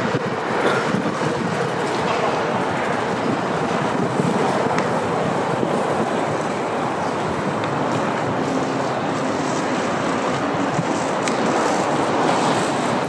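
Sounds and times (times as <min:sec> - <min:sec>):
city traffic going by: 0:00.0 - 0:13.0.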